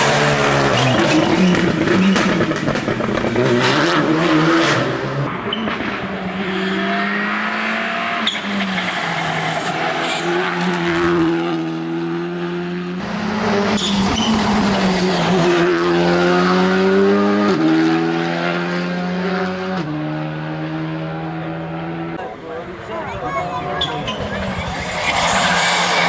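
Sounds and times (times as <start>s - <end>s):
car engine revving through gears: 0.0s - 22.2s, 23.8s - 26.0s.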